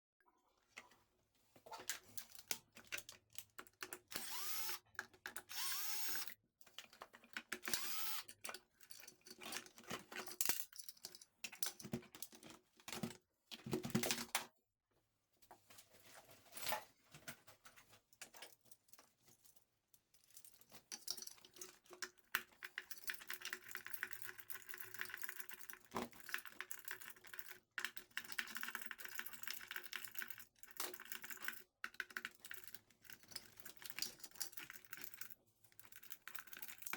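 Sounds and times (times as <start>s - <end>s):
small hard parts clicking and rattling: 2.1s - 14.3s, 18.2s - 36.9s.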